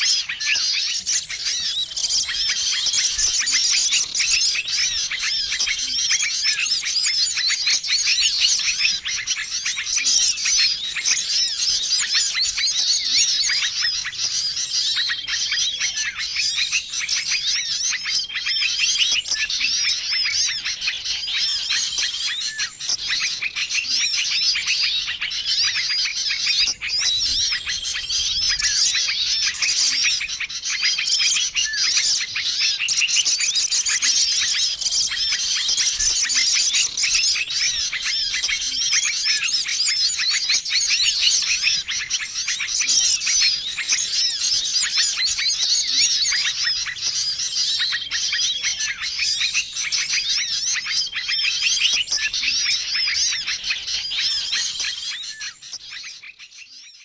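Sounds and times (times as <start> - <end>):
songbirds chirping and twittering: 0.0 - 57.0.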